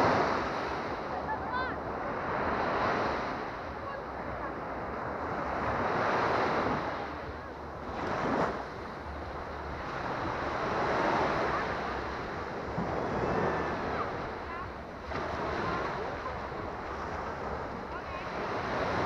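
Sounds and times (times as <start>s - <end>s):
small waves washing on sand: 0.0s - 19.0s.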